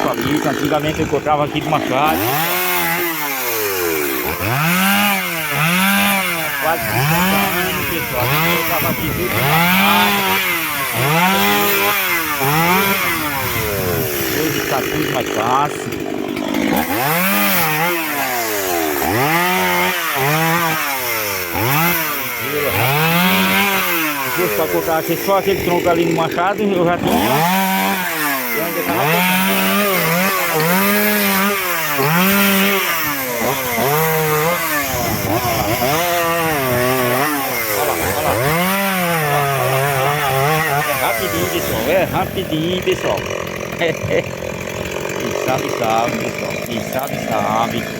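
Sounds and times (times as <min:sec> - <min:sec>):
chainsaw cutting log: 0:00.0 - 0:47.9.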